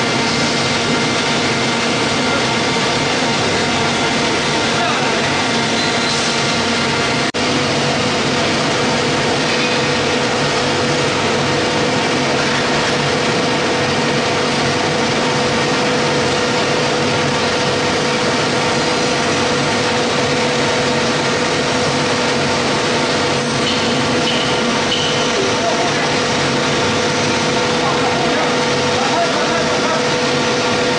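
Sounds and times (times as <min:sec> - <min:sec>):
machinery mechanical hum: 0:00.0 - 0:30.9.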